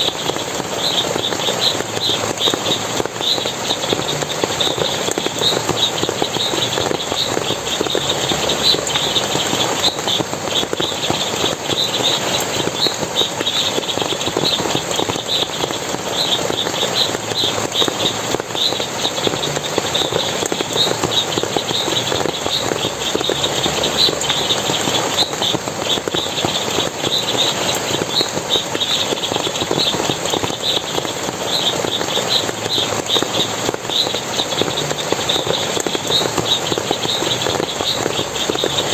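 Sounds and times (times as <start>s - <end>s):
water splashing and running: 0.0s - 38.9s.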